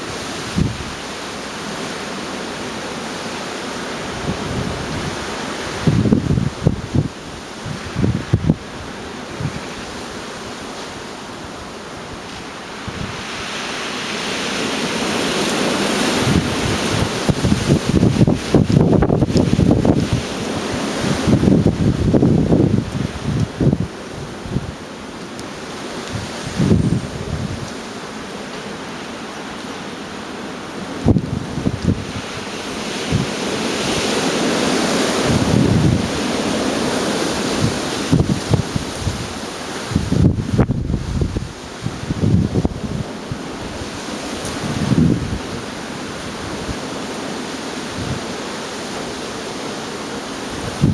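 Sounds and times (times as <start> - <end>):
wind buffeting microphone: 0.0 - 1.1, 4.0 - 24.9, 25.9 - 27.8, 30.8 - 47.0, 47.8 - 48.4, 50.4 - 50.9
storm wind blowing: 0.0 - 50.9.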